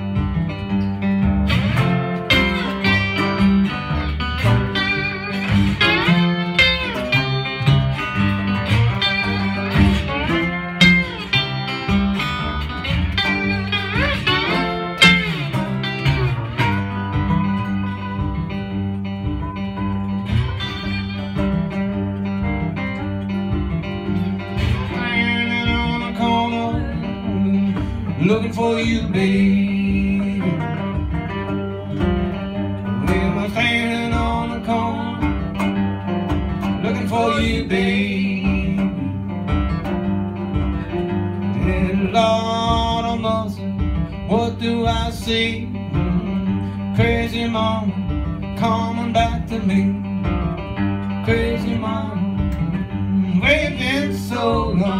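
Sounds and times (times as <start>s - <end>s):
bending high guitar lines: 0.0s - 54.9s
resonator guitar: 0.0s - 54.9s
second guitar: 0.0s - 54.9s
steady low rhythm: 0.0s - 54.9s.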